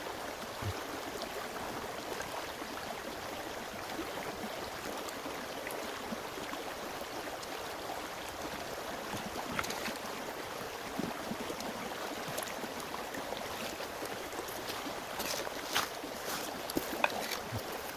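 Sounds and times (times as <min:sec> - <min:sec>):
stream water flowing: 0:00.0 - 0:17.9.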